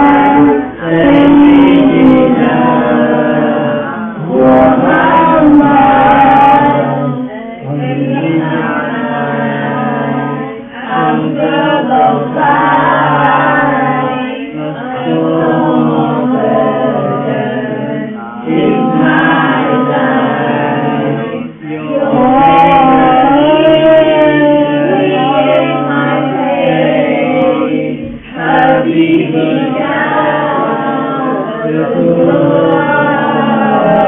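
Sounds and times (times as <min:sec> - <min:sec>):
group singing together: 0:00.0 - 0:34.0.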